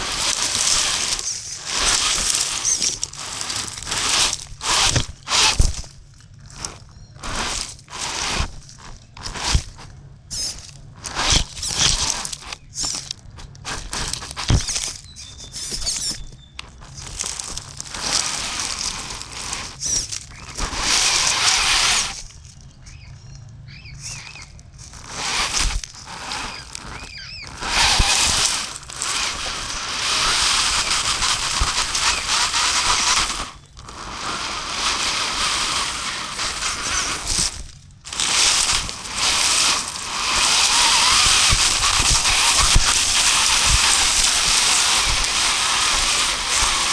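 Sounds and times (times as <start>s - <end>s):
electric motor and gears whining: 0.0s - 46.9s
tyres crunching on dirt and stones: 0.0s - 46.9s.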